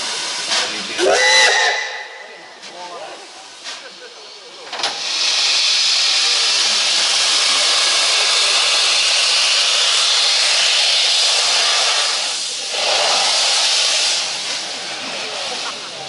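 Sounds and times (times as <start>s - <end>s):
steam locomotive hissing steam: 0.0s - 16.0s.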